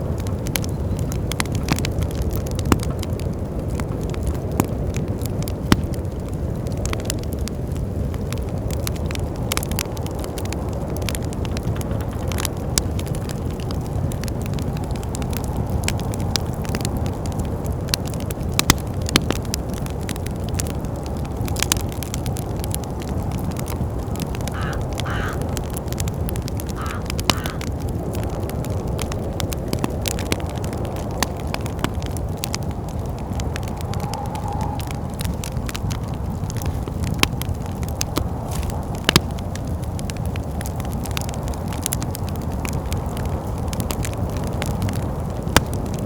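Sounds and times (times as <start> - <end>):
low rumble of wind: 0.0 - 46.0
wood fire crackling: 0.0 - 46.0.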